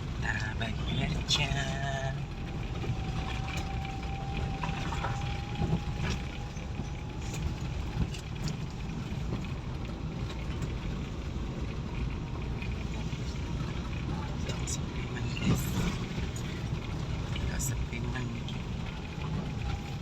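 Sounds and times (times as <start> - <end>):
vehicle driving rumble: 0.0 - 20.0.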